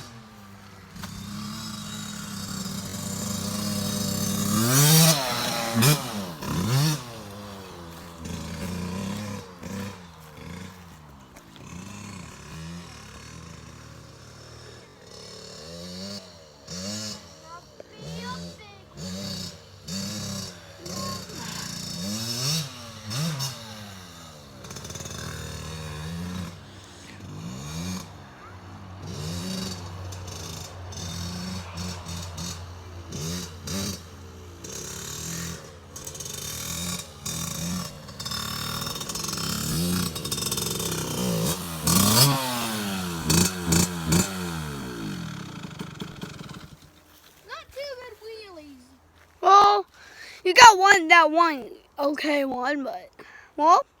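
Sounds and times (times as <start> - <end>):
dirt bike engine revving: 0.0 - 48.6.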